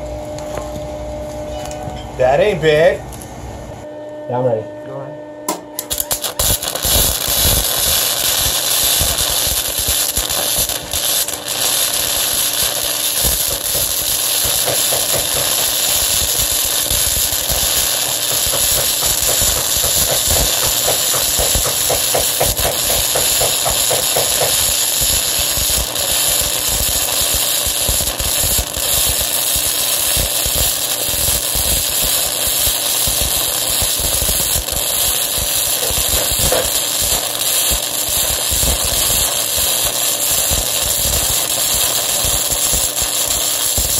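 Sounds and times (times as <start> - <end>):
welding arc crackling and sizzling: 5.8 - 43.9.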